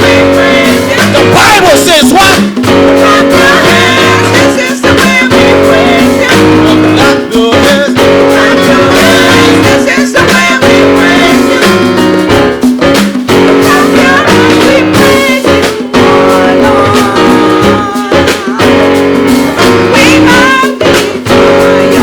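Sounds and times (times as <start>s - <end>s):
church praise music: 0.0s - 22.0s.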